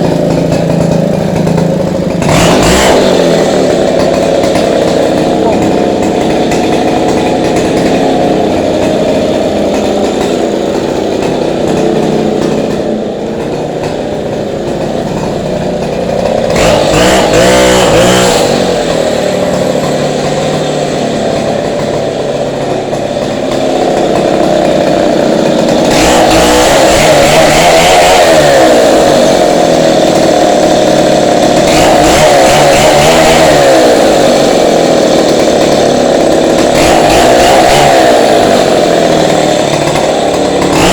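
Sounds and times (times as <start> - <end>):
chainsaw cutting: 0.0 - 40.9.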